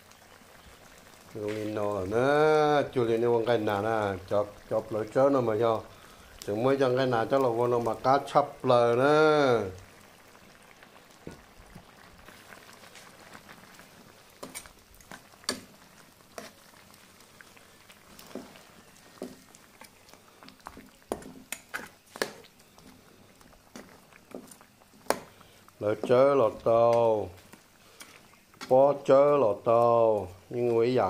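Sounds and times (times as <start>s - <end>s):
stew simmering with pops: 0.0s - 31.0s.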